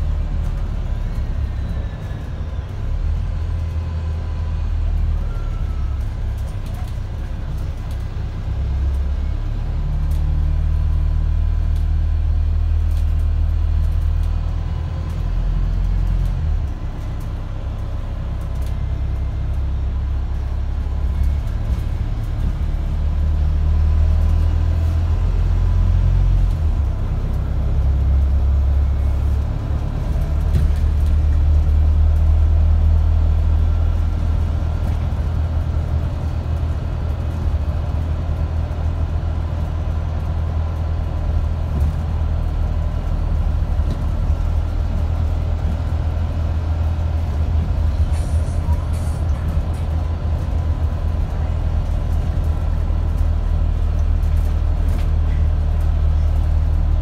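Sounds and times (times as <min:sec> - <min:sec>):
bus engine droning: 0:00.0 - 0:57.0
road rumble: 0:00.0 - 0:57.0.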